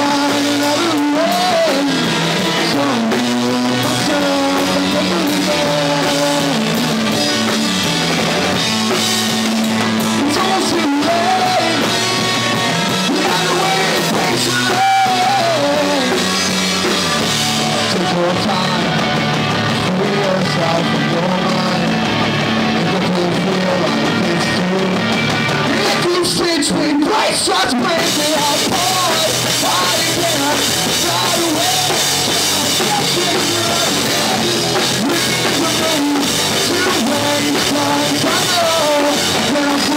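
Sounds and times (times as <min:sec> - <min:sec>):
drum kit: 0:00.0 - 0:39.9
electric guitars: 0:00.0 - 0:39.9
person singing: 0:00.0 - 0:39.9.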